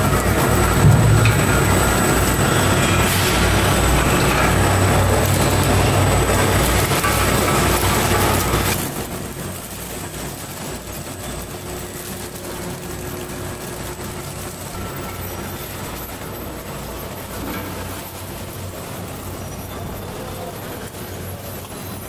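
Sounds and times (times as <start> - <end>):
packing machinery humming: 0.0 - 22.0.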